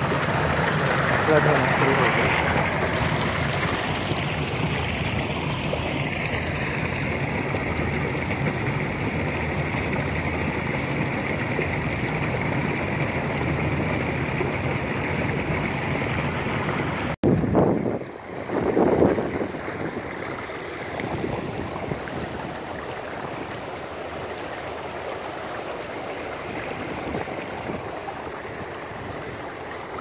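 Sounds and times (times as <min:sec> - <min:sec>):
water rushing along concrete channel: 0:00.0 - 0:30.0.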